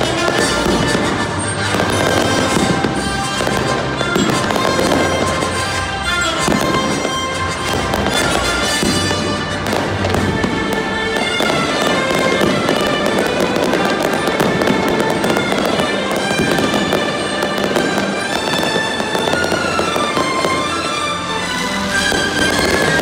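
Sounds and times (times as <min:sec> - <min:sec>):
fireworks bursting and crackling: 0:00.0 - 0:23.0
music: 0:00.0 - 0:23.0.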